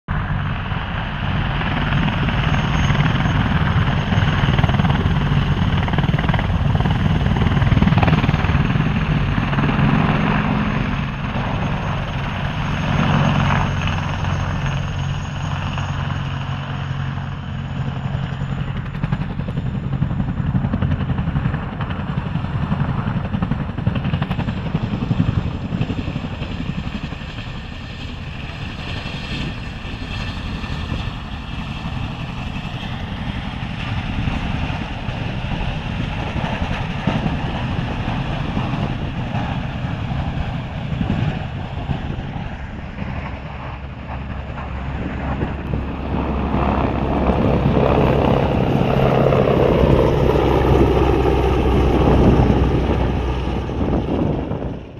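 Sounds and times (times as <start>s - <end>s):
helicopter rotor beating: 0.1s - 54.9s
tandem-rotor helicopter passing: 0.1s - 54.9s.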